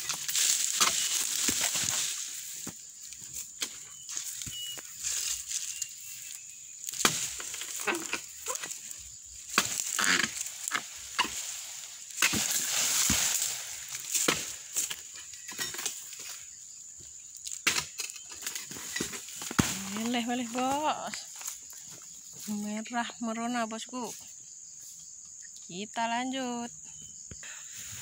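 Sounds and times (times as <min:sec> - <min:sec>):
palm fronds rustling: 0:00.0 - 0:22.8.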